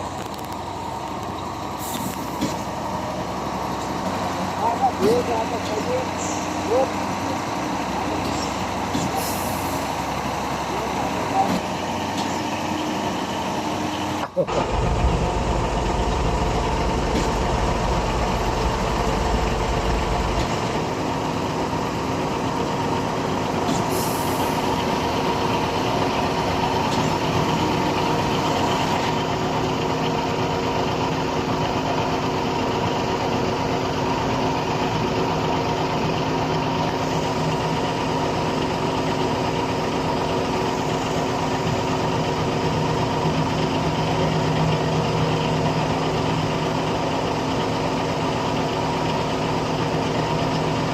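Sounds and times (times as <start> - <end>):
concrete pump engine droning: 0.0 - 50.9.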